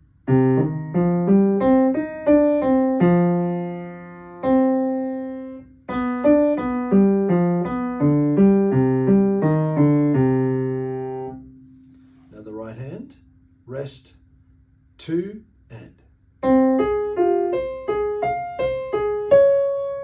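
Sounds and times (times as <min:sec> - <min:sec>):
low piano notes: 0:00.3 - 0:12.8, 0:16.4 - 0:20.0.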